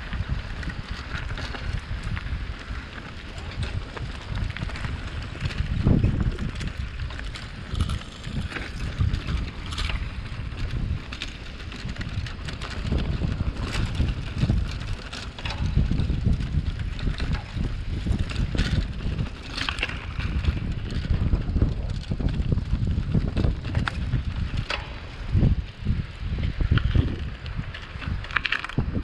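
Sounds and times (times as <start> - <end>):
bicycle clicks and rattles: 0.0 - 29.0
wind buffeting microphone: 0.0 - 29.0.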